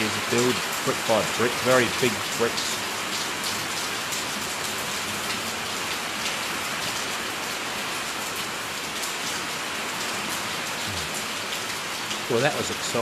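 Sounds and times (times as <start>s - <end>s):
heavy rain on brick paving: 0.0s - 13.0s.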